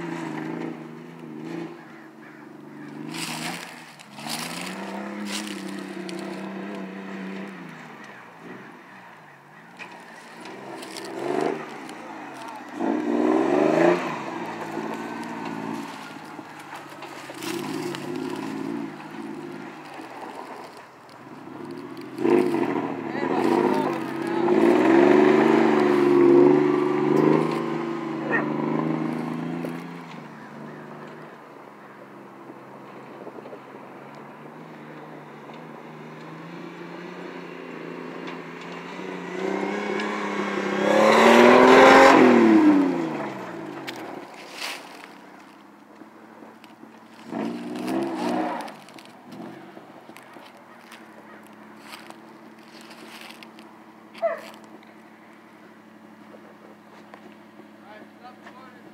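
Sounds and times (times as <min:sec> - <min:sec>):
tyres scrabbling on dirt: 0:00.0 - 0:31.3, 0:38.1 - 0:55.5, 0:56.1 - 0:58.9
buggy engine revving: 0:00.0 - 0:58.9.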